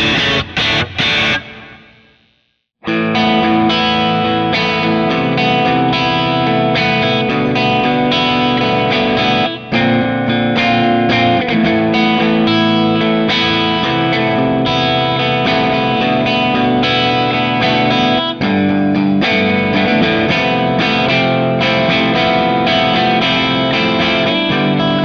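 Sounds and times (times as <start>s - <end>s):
overdriven electric guitar chords: 0.0s - 25.0s.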